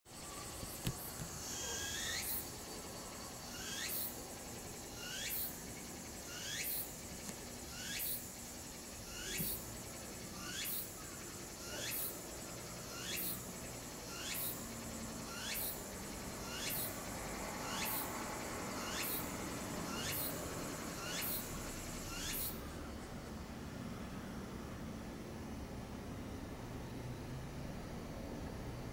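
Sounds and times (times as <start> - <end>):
cicada singing: 0.1 - 28.9
steady high hiss: 0.1 - 28.9.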